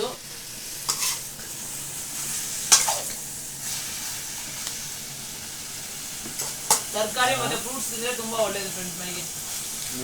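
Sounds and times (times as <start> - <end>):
curry sizzling in a frying pan: 0.0 - 10.0.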